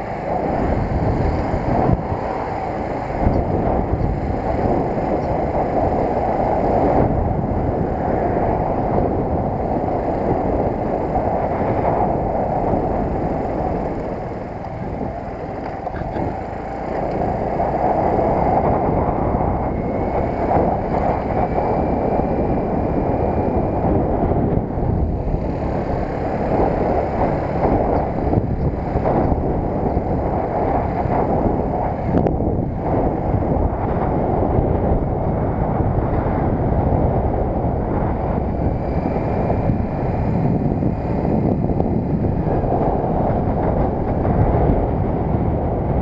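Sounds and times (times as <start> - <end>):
moped engine running: 0.0 - 46.0
wind rush on microphone: 0.0 - 46.0.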